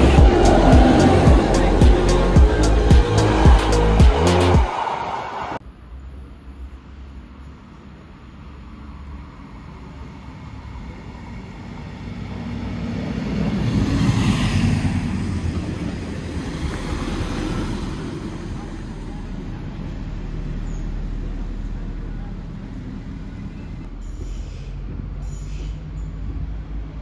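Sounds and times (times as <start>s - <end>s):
diesel train passing: 0.0s - 27.0s.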